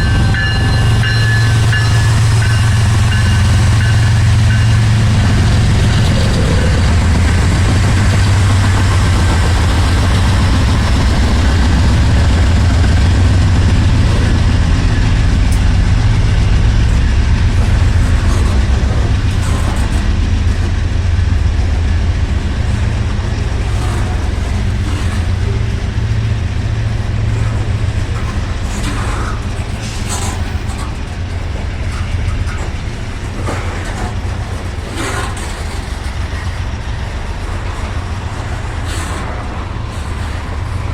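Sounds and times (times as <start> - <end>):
locomotive engine drone: 0.0 - 40.9
sharp clicks from rails: 0.4 - 40.9.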